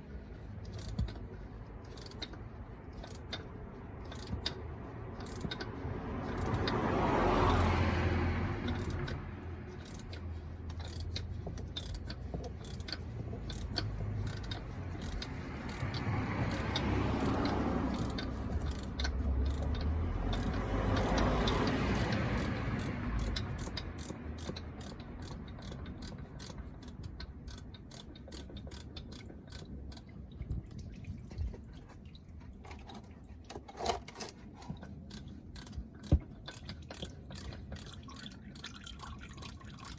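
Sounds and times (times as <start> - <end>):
ratchet wrench clicking: 0.6 - 30.1, 33.5 - 39.9.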